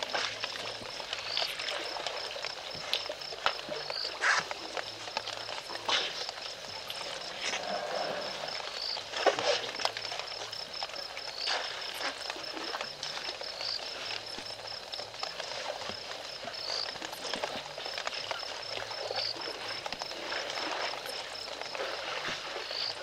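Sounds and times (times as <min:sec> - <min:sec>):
elephants splashing water: 0:00.0 - 0:23.0
water sucked and squirted from trunks: 0:00.0 - 0:23.0.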